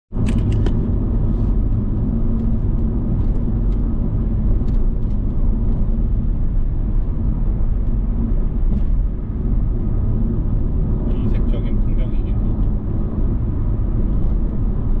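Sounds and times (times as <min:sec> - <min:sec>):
vehicle driving on road: 0:00.1 - 0:15.0.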